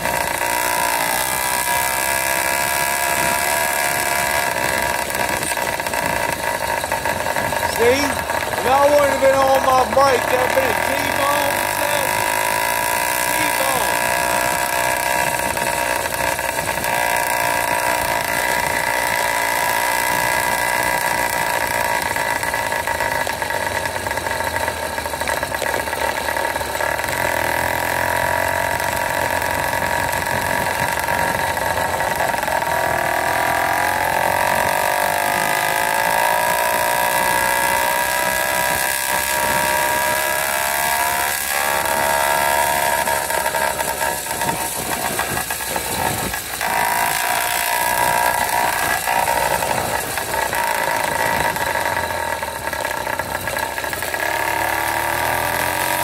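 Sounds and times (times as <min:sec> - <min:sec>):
two-stroke engine running: 0:00.0 - 0:56.0.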